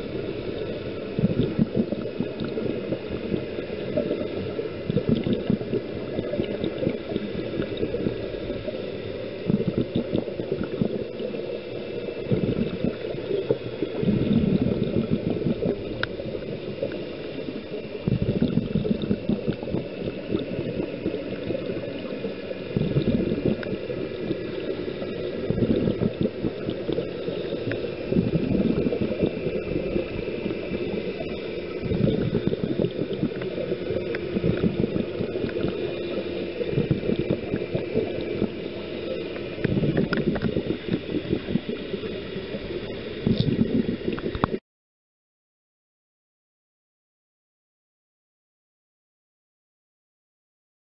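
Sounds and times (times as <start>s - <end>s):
exhaled bubbles gurgling: 0.0s - 44.6s
underwater rumble: 0.0s - 44.6s.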